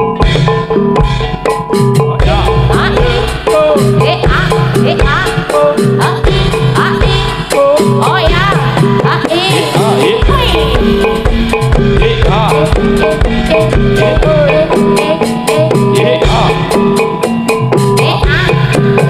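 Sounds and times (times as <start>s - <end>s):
drum beats: 0.0s - 19.0s
ringing tuned percussion: 0.0s - 19.0s
wavering melody line: 0.0s - 19.0s.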